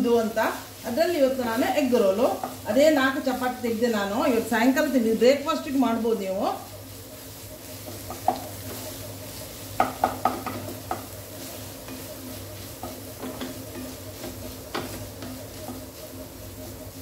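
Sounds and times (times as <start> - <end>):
stirring clicks and scrapes on pan: 0.0 - 17.0
vegetables sizzling in a pan: 0.0 - 17.0.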